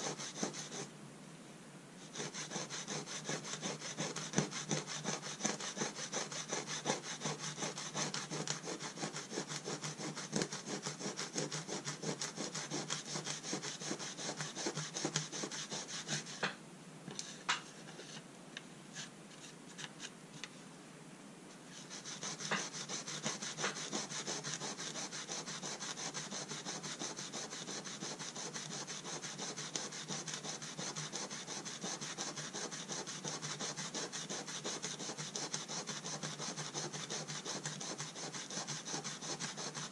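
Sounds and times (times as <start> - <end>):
abrasive pad scrubbing metal plate: 0.0 - 0.8, 2.1 - 16.4, 21.8 - 39.8.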